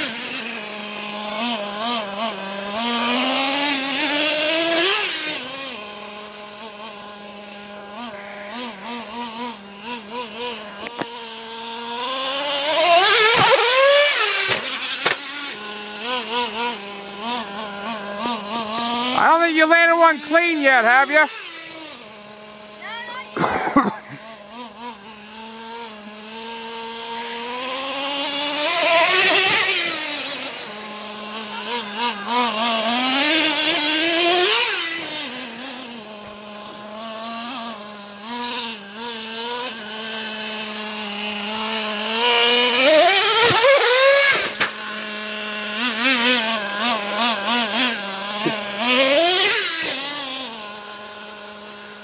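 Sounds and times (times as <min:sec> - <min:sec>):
small engine revving and idling: 0:00.0 - 0:52.0.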